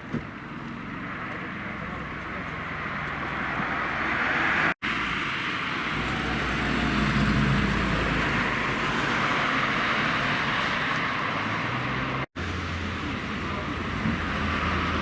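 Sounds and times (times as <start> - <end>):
road noise hiss: 0.1 - 15.0
car engine passing by: 2.5 - 15.0.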